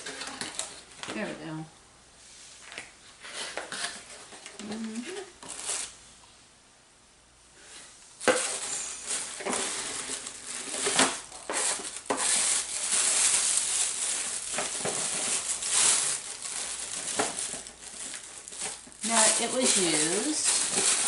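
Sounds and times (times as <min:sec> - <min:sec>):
packaging crinkling and rustling: 0:00.0 - 0:01.3, 0:02.7 - 0:06.0, 0:08.2 - 0:21.0.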